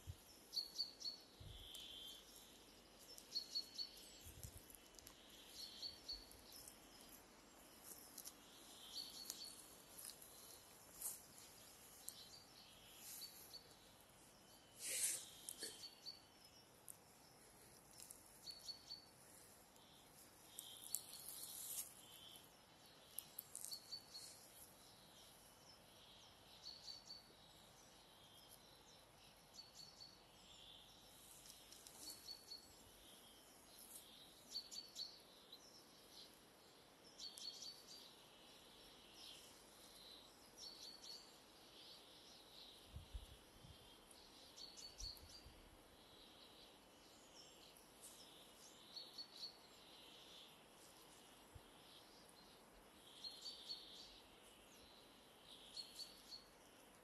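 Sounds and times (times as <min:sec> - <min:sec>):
background hiss: 0:00.0 - 0:57.0
songbirds chirping: 0:00.0 - 0:57.0.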